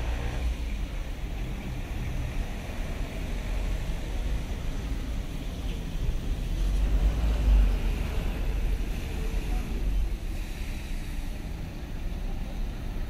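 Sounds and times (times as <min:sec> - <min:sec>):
car engines passing: 0:00.0 - 0:13.0
tyres hissing on wet road: 0:00.0 - 0:13.0.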